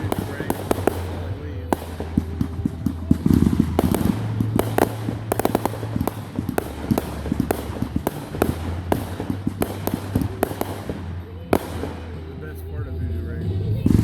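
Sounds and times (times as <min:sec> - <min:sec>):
fireworks popping and cracking: 0:00.0 - 0:12.9
low hum: 0:00.0 - 0:14.0.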